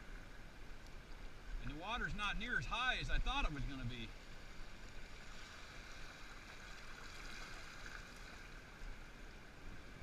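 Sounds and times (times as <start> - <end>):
muffled river water rushing: 0.0 - 10.0.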